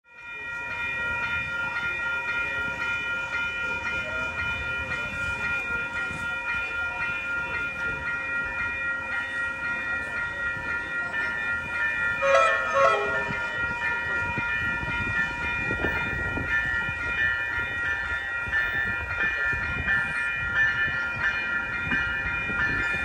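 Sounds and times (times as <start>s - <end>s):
railroad crossing bell ringing: 0.0s - 23.0s.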